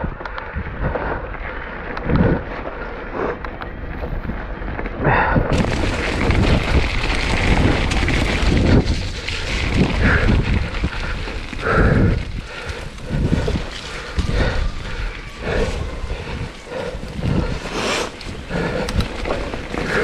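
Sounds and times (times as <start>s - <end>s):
bike trail noise: 0.0s - 20.0s
wind buffeting microphone: 0.0s - 20.0s.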